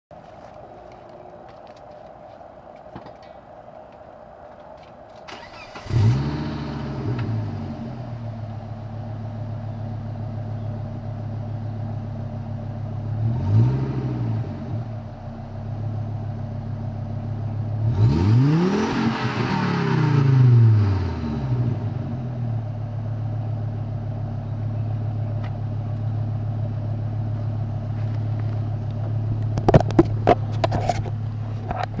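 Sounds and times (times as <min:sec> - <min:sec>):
car engine idling and revving: 0:00.2 - 0:32.0.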